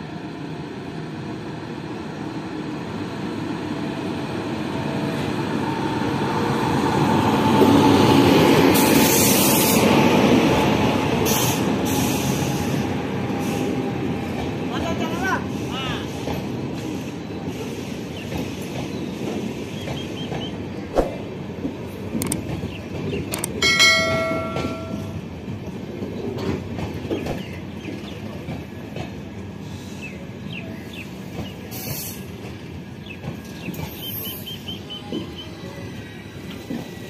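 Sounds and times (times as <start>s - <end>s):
train wheels rumbling and clattering: 3.1s - 37.0s.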